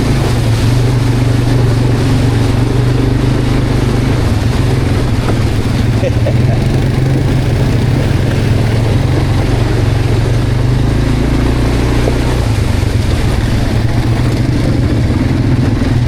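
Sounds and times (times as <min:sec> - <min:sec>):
noisy rush: 0:00.0 - 0:16.0
quad bike engine running: 0:00.0 - 0:16.0.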